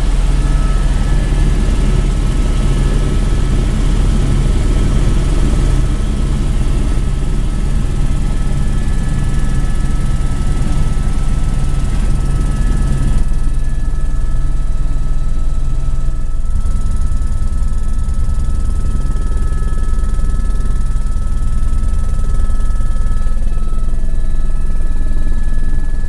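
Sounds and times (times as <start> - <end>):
helicopter rotor and engine drone: 0.0 - 26.0
high turbine whine: 0.0 - 26.0.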